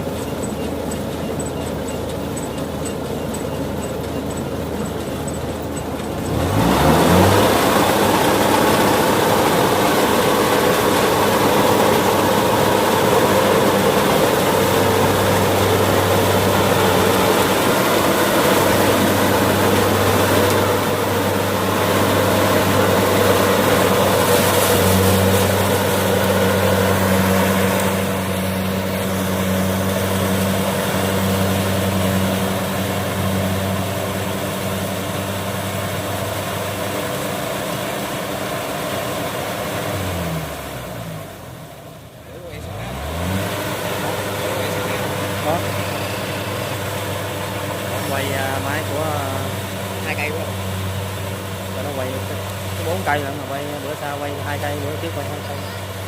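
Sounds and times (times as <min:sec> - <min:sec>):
heavy diesel engine revving: 0:00.0 - 0:56.0.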